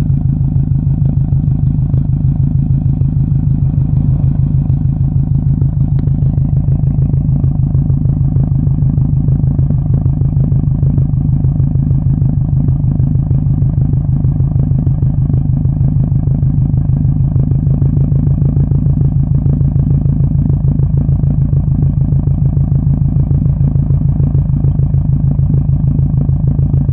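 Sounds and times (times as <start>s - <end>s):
car engine exhaust pulsing: 0.0s - 26.9s.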